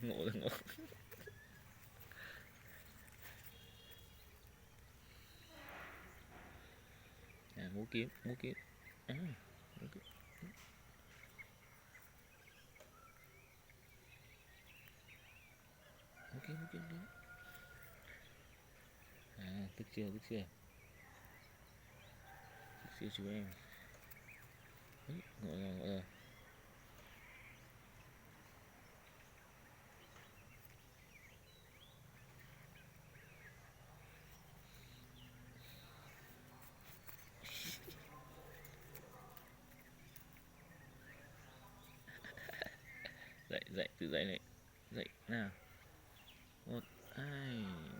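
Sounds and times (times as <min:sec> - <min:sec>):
faint distant bird chirps: 0:00.0 - 0:47.9.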